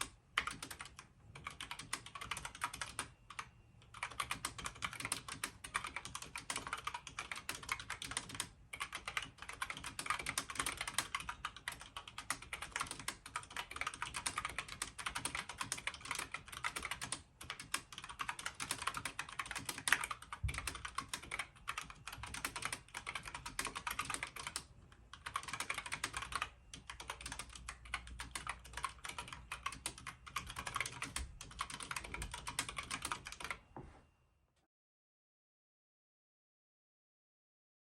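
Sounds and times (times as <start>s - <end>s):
mechanical keyboard typing: 0.0s - 33.6s.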